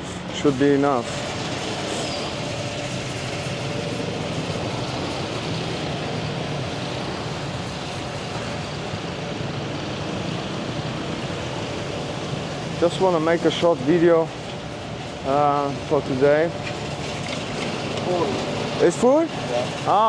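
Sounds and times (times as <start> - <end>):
fuel rushing: 0.0 - 20.0.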